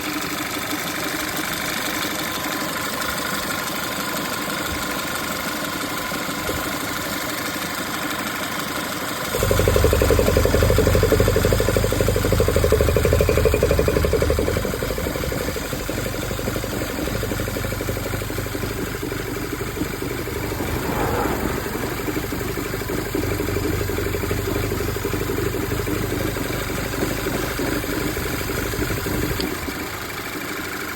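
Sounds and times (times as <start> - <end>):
car engine idling roughly: 0.0 - 30.9.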